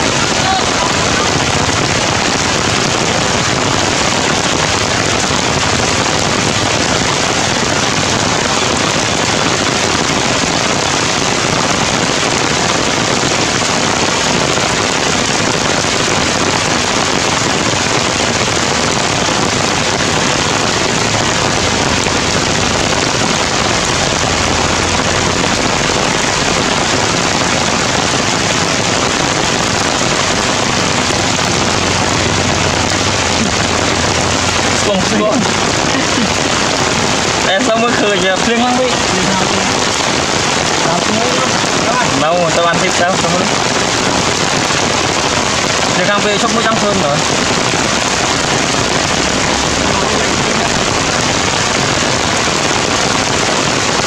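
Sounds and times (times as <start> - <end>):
heavy rain on trees: 0.0 - 54.0.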